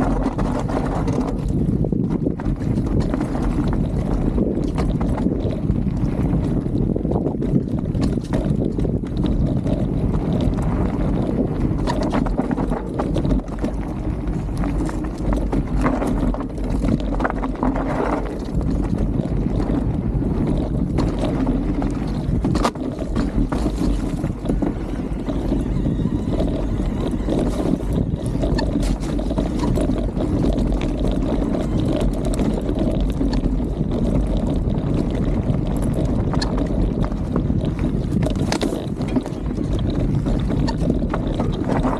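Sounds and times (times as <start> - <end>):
bike rattling and knocking: 0.0 - 41.9
tyres rumbling over dirt and stones: 0.0 - 41.9
wind buffeting microphone: 0.0 - 41.9.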